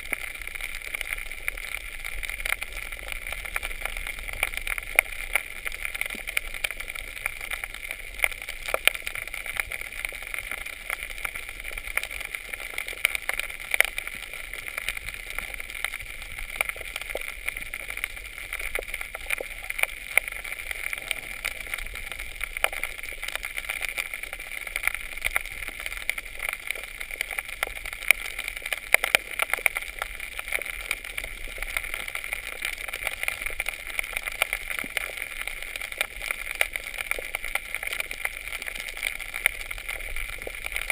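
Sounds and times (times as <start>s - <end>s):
reef clicking and crackling: 0.0s - 40.9s.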